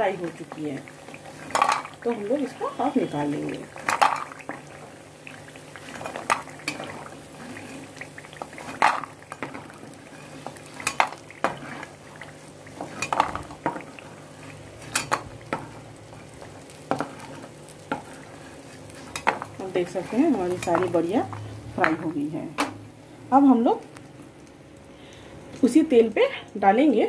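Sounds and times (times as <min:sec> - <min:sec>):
oil sizzling: 0:00.0 - 0:27.0.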